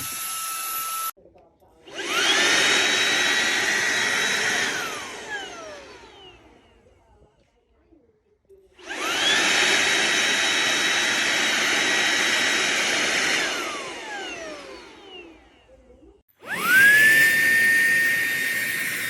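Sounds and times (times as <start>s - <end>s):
handheld vacuum motor whine: 0.0s - 1.2s, 1.8s - 6.9s, 8.8s - 19.0s.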